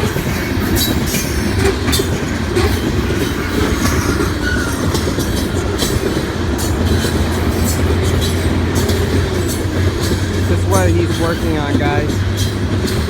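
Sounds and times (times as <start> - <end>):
train rumbling past: 0.0 - 13.0
wheels clacking over rail joints: 0.0 - 13.0.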